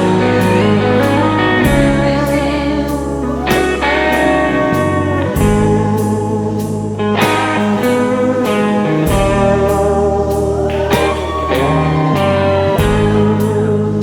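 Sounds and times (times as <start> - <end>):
bluesy rock guitar bass and drums: 0.0 - 14.0.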